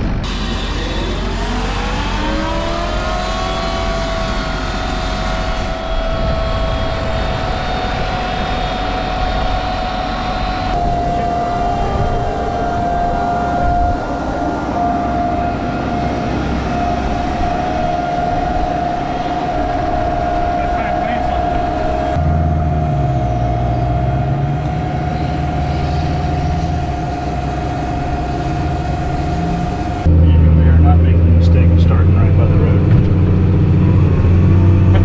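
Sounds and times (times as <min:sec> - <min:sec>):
machinery whine rising: 0:00.0 - 0:35.0
tractor running: 0:00.0 - 0:35.0.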